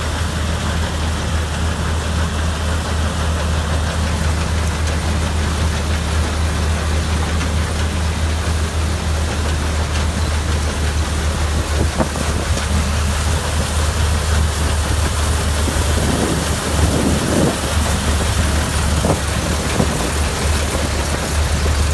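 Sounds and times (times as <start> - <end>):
combine harvester running: 0.0 - 21.9.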